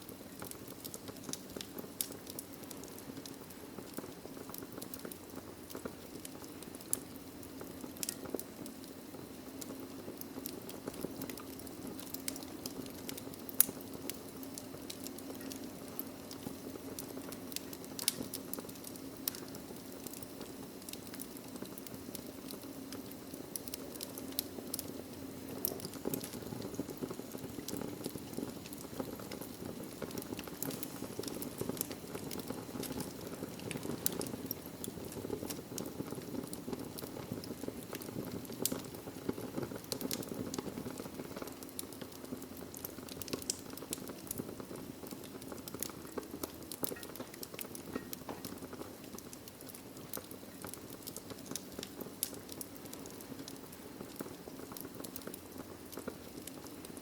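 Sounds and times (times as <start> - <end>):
logs crackling in fireplace: 0.0 - 57.0
low rush of flame: 0.0 - 57.0.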